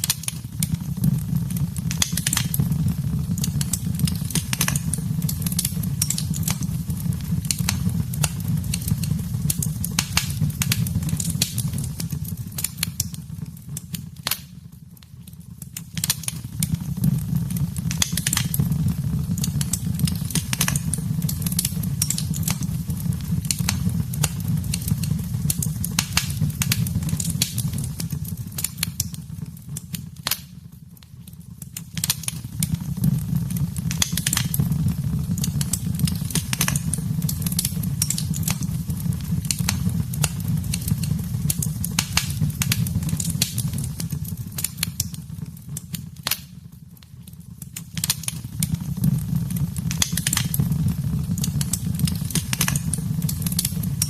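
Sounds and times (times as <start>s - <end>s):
fire flames rumbling: 0.0s - 54.0s
wood fire crackling and popping: 0.0s - 54.0s.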